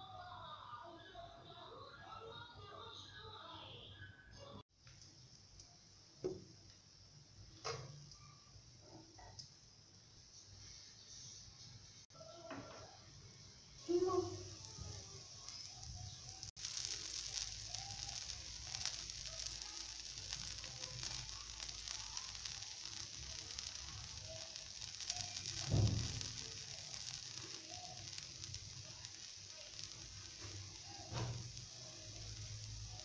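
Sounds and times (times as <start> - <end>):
dosa sizzling on a hot pan: 4.8 - 33.0.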